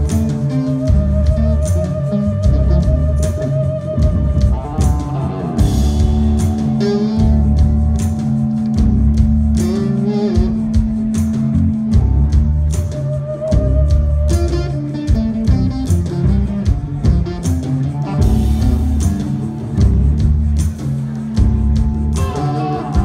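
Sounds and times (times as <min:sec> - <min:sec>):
bass guitar: 0:00.0 - 0:23.0
drum beat: 0:00.0 - 0:23.0
electric guitar: 0:00.0 - 0:23.0.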